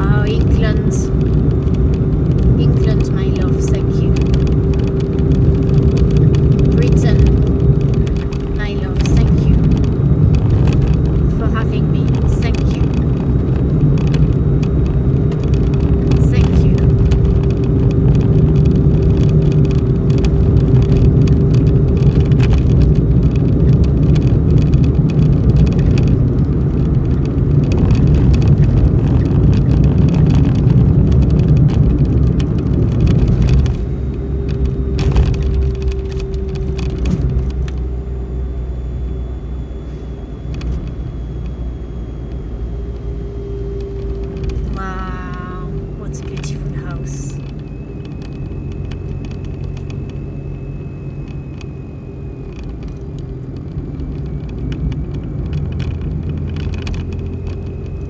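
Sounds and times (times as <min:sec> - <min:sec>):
continuous low rumble: 0:00.0 - 0:58.0.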